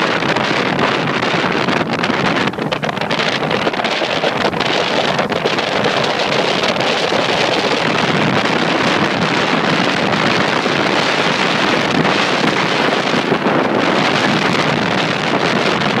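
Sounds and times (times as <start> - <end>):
motorboat engine and water rush: 0.0 - 16.0
wind buffeting microphone: 0.0 - 16.0.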